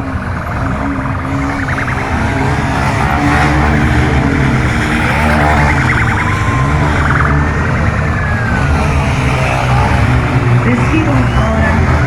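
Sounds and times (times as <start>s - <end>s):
rumble of vehicle engines: 0.0s - 12.0s
siren wailing: 0.0s - 12.0s.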